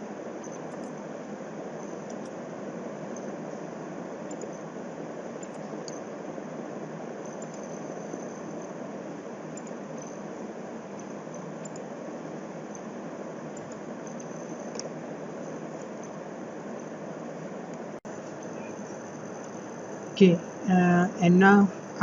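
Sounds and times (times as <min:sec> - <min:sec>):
fan-like hiss: 0:00.0 - 0:22.0.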